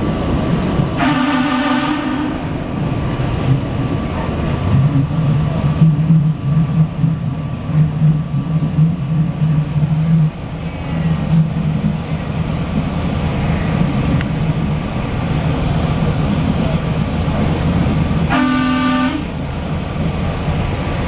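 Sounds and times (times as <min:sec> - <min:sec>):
train wheels and motors rumble: 0:00.0 - 0:21.0.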